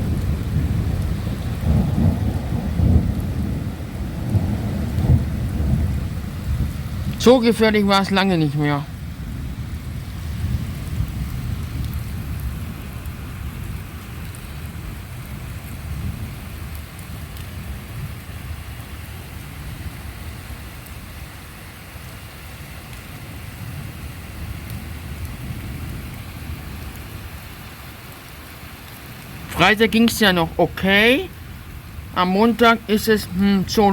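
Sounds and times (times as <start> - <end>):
thunder rumbling: 0.0 - 21.2, 22.5 - 33.9
steady rain: 0.0 - 33.9.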